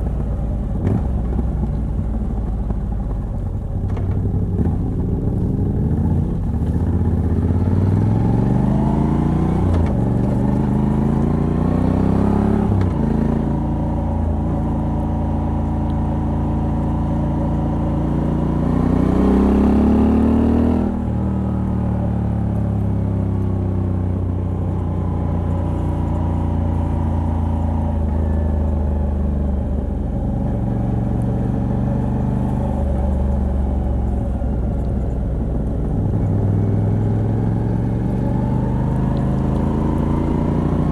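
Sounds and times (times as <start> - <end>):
motorcycle engine revving: 3.8 - 35.1, 35.8 - 40.9.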